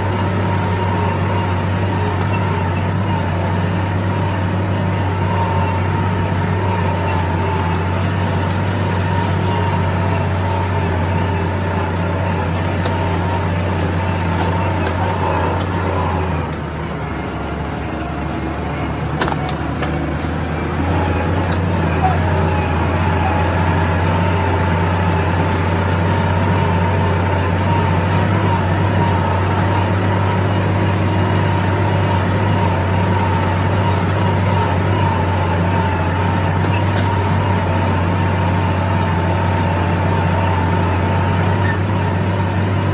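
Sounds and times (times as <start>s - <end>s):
tractor engine under load: 0.0s - 42.9s.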